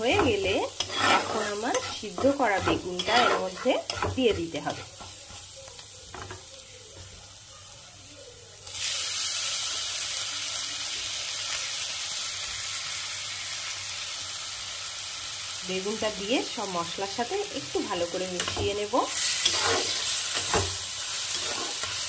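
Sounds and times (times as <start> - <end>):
paste sizzling in oil: 0.0 - 6.4, 8.6 - 22.0.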